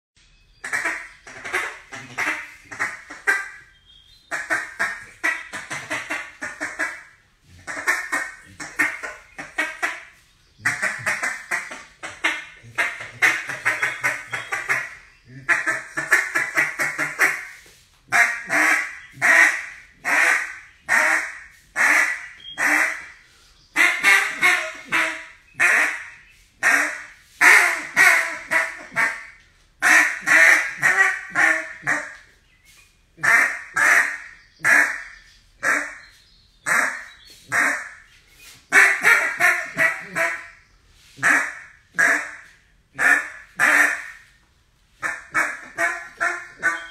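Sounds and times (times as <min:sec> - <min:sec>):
duck call quacks: 0:00.6 - 0:23.2, 0:23.8 - 0:32.4, 0:33.2 - 0:44.4, 0:45.0 - 0:46.9.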